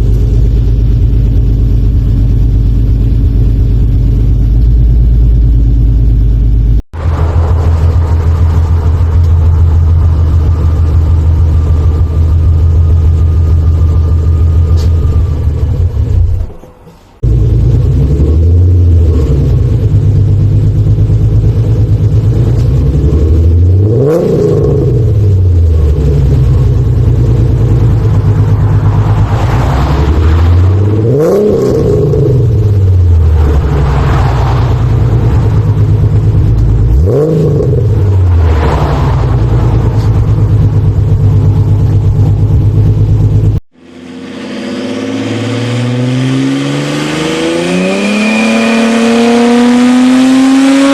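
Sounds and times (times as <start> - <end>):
car engine idling and revving: 0.0 - 50.9
engine accelerating: 0.0 - 50.9.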